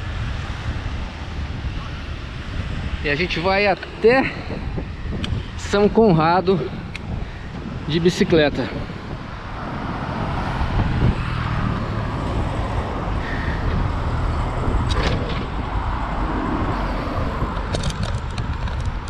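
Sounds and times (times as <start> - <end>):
road traffic: 0.0 - 19.0
wind rumble on microphone: 0.0 - 19.0.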